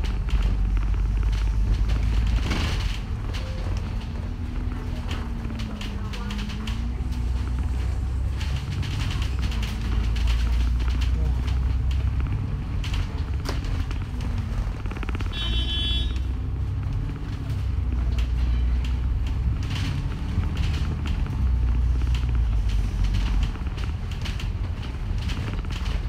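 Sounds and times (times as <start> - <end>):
bus engine drone: 0.0 - 26.0
rattles and clicks of bus body: 0.0 - 26.0.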